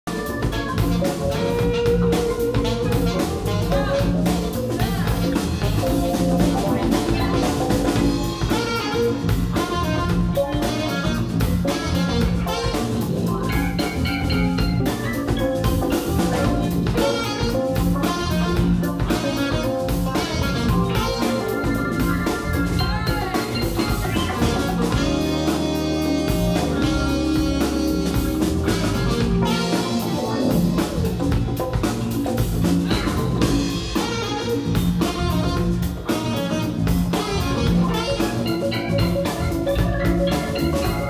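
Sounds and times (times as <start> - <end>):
bass: 0.0 - 41.0
drum kit beat: 0.0 - 41.0
keyboards: 0.0 - 41.0
alto saxophone: 0.1 - 41.0
electric guitar: 0.1 - 41.0.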